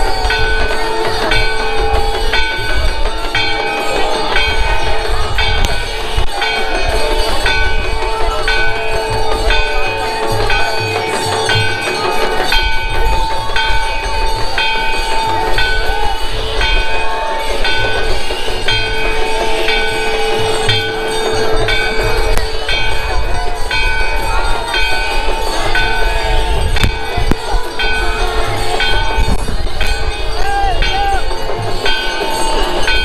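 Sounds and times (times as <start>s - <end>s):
bells struck rhythmically: 0.0s - 33.0s
drumbeat: 0.0s - 33.0s
steady held tone: 0.0s - 33.0s.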